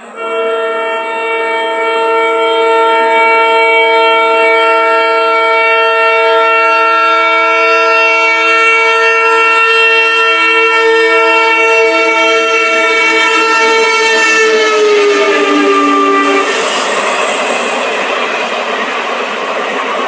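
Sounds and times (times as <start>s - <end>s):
locomotive horn blast: 0.0s - 18.0s.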